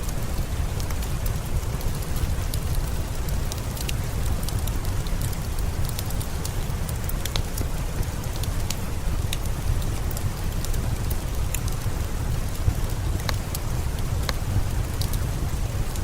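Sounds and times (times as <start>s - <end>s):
steady rain: 0.0s - 16.0s
wood fire popping and crackling: 0.0s - 16.0s.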